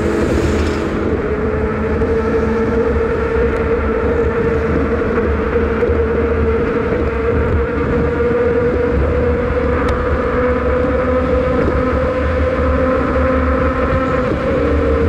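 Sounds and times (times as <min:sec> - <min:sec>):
steady buzzing whine: 0:00.0 - 0:15.0
wind rumbling on microphone: 0:00.0 - 0:15.0.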